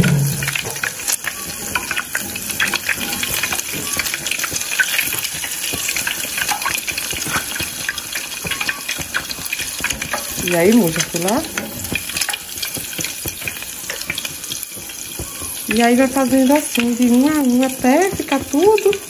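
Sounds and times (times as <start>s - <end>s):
bread frying in hot oil: 0.0s - 19.0s.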